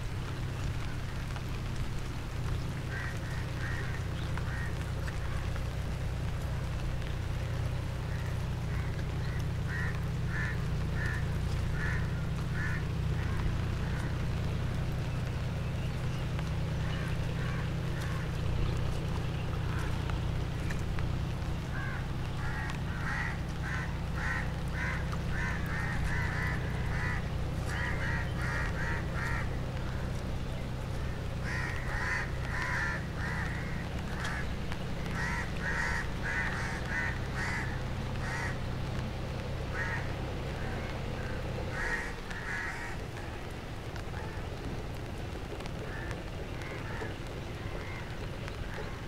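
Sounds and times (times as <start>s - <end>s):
low rumble: 0.0s - 49.0s
birds calling harshly: 0.2s - 49.0s.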